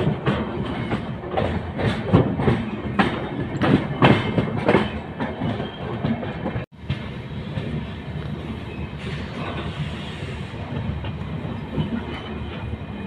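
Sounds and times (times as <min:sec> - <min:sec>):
train rumbling: 0:00.0 - 0:13.0
train wheels clattering over rails: 0:00.0 - 0:13.0.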